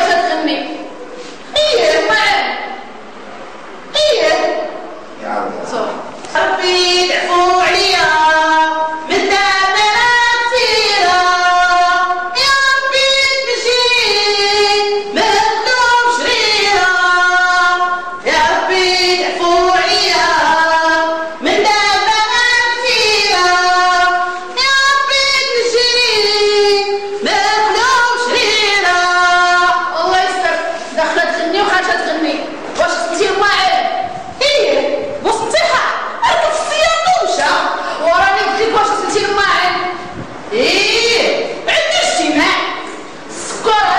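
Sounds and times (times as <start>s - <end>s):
person singing unaccompanied: 6.2s - 42.7s.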